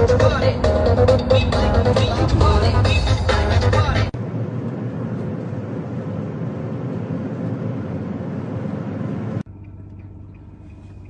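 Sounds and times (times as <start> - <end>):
vehicle driving on road: 0.0 - 11.0.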